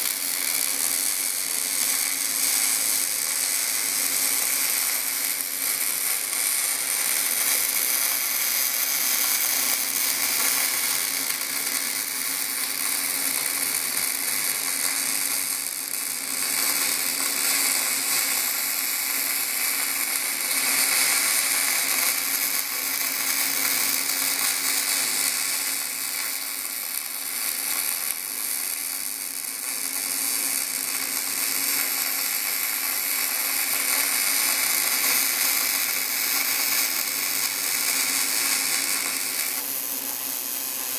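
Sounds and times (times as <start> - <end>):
welding arc crackling: 0.0 - 40.9.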